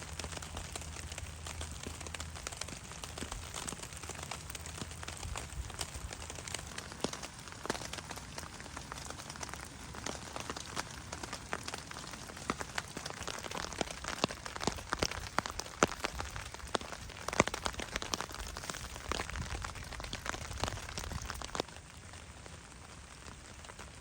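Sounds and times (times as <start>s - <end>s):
rain drops ticking on a surface: 0.0s - 24.0s.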